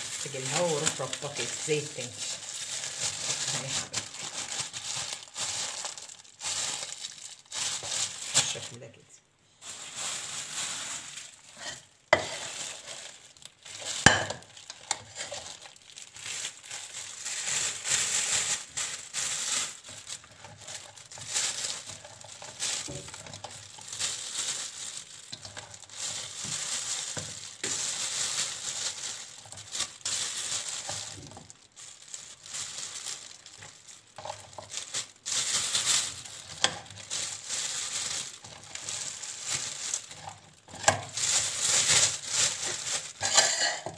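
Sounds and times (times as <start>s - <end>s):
plastic bag rustling and crinkling: 0.0s - 43.9s.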